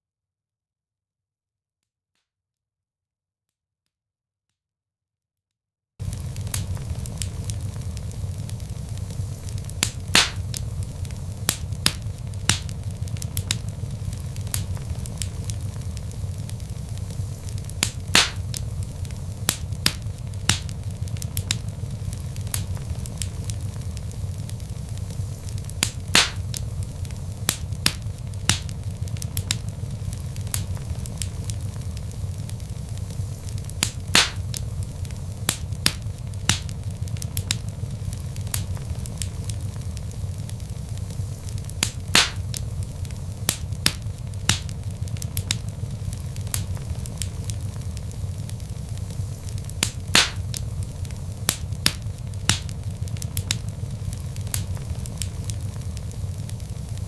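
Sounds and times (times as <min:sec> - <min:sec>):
log fire crackling: 0:06.0 - 0:57.0
loud fire pops: 0:06.0 - 0:57.0.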